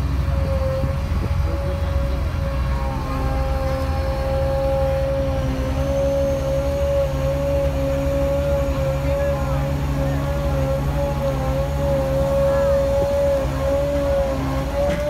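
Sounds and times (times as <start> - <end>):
steady high whine: 0.0 - 15.0
tractor diesel engine rumbling: 0.0 - 15.0.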